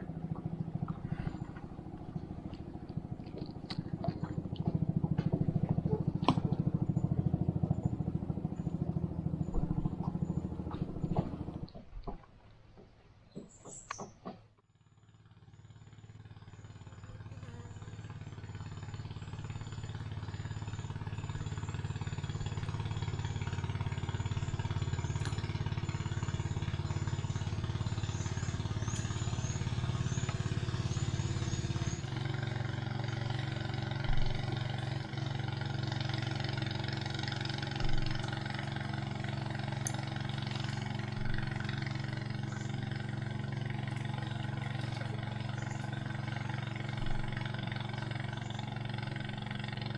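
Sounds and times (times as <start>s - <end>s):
boat motor running: 0.0s - 14.2s, 15.0s - 49.9s.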